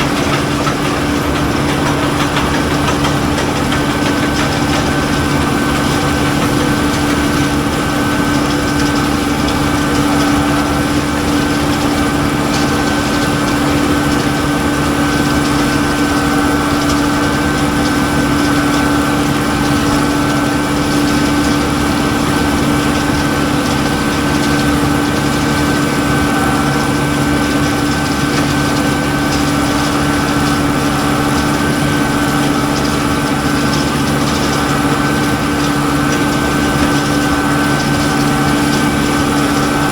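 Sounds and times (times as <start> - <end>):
steady machine whine: 0.0 - 39.9
tractor engine drone: 0.0 - 39.9.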